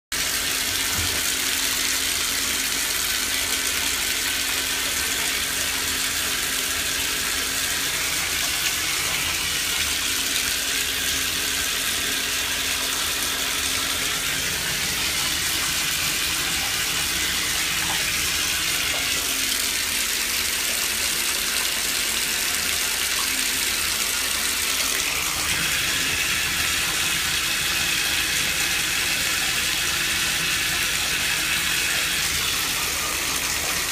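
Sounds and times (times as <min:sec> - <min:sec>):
bathtub tap running: 0:00.2 - 0:33.9.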